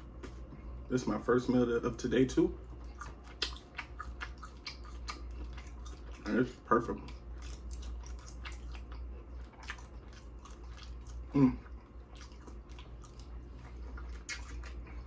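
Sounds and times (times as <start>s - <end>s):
steady low hum: 0.0s - 15.0s
wet chewing: 2.6s - 15.0s.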